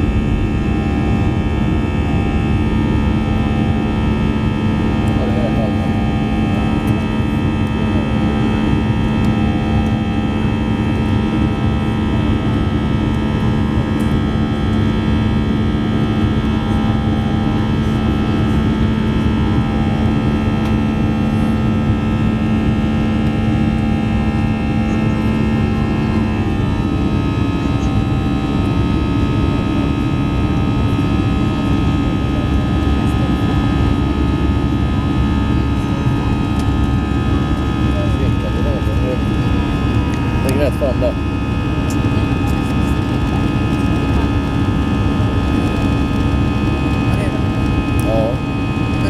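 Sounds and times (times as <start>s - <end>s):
jet cabin engine hum: 0.0s - 49.0s.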